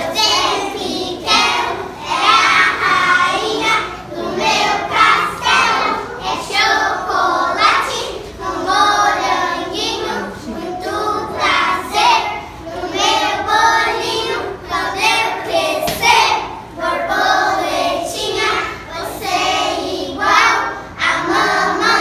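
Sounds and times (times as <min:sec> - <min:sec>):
children singing in unison: 0:00.0 - 0:22.0.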